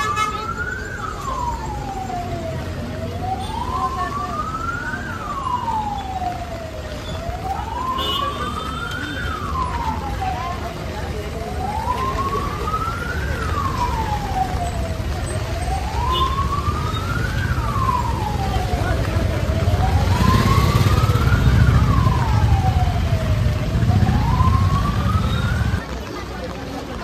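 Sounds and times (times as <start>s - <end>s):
siren wailing: 0.0s - 25.8s
low rumble of street traffic: 0.0s - 27.0s.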